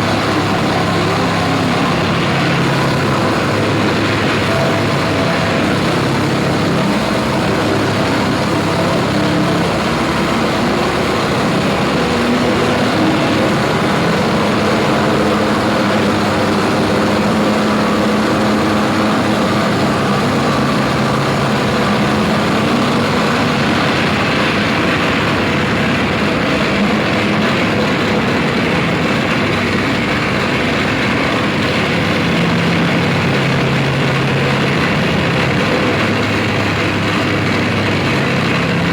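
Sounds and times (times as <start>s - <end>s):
harsh noise music: 0.0s - 38.9s
low droning tones: 0.0s - 38.9s.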